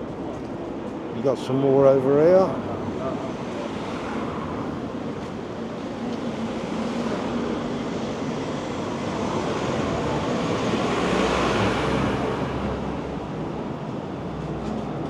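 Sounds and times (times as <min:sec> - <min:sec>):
town street noise: 0:00.0 - 0:15.0.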